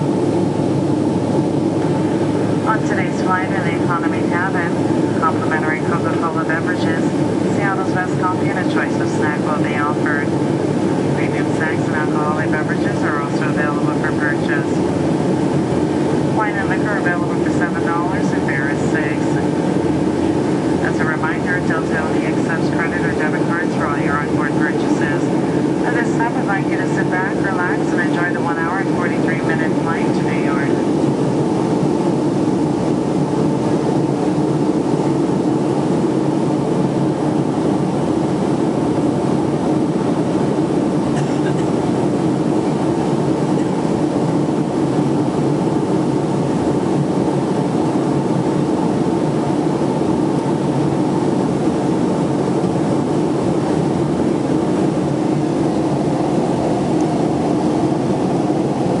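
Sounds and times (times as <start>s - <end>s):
jet cabin engine rush: 0.0s - 59.0s.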